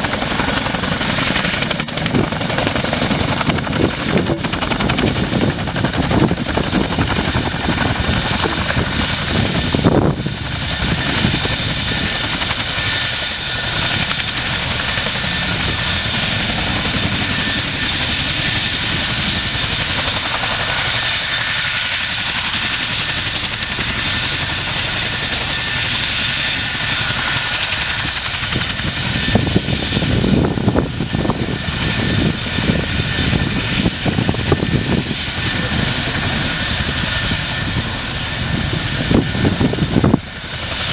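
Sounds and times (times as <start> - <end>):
helicopter rotor beat: 0.0 - 40.9
turbine whine: 0.0 - 40.9.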